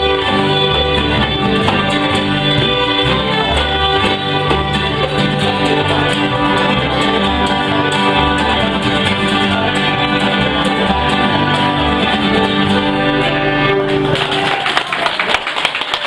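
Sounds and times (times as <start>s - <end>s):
banjo: 0.0s - 14.2s
fiddles playing melody: 0.0s - 14.2s
low bass line: 0.0s - 14.3s
strummed guitar: 0.0s - 14.6s.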